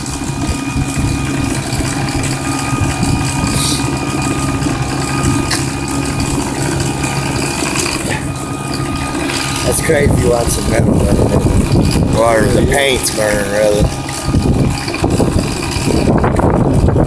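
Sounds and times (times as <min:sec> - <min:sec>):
furnace mechanical hum: 0:00.0 - 0:17.0.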